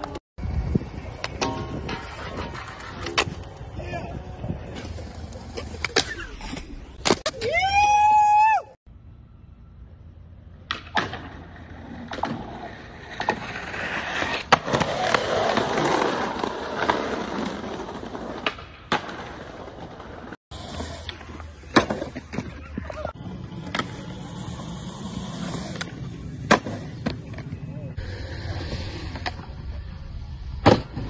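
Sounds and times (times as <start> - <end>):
skateboard wheels rolling on concrete: 0.0 - 31.0.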